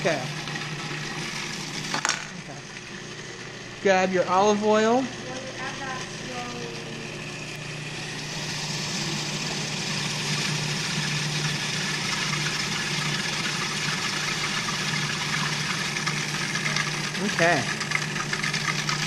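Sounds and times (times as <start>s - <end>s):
food processor motor whirring: 0.0s - 19.0s.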